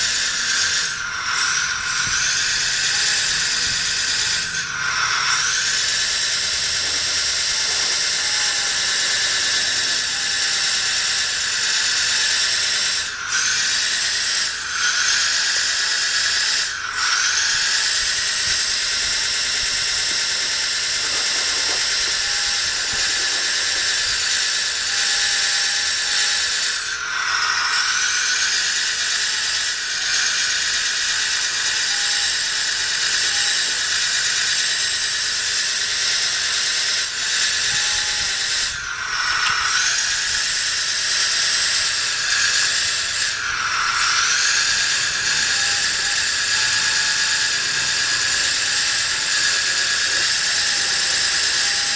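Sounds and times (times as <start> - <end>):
electric motor whining: 0.0 - 51.9.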